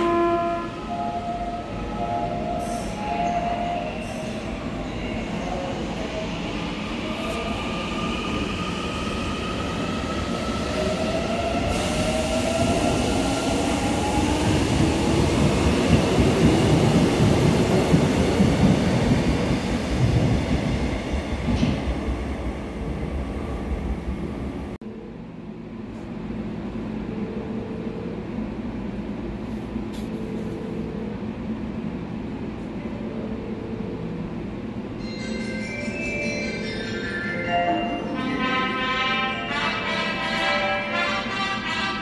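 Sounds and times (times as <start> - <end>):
quiet steady train hum: 0.0 - 35.8, 36.4 - 42.0.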